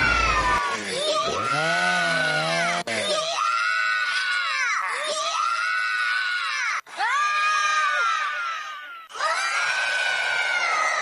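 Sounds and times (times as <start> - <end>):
cartoon girls screaming: 0.0 - 1.5, 3.2 - 11.0.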